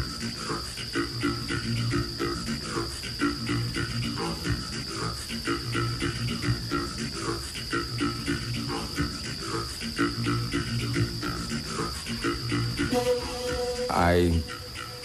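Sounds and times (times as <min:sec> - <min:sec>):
crickets chirring: 0:00.0 - 0:15.0
low rhythmic pulsing: 0:00.0 - 0:15.0.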